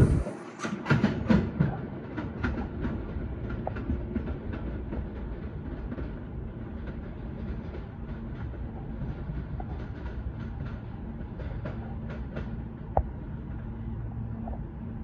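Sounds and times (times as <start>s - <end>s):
subway train rumbling: 0.0s - 15.0s
wheel clicks over rail joints: 0.4s - 13.2s.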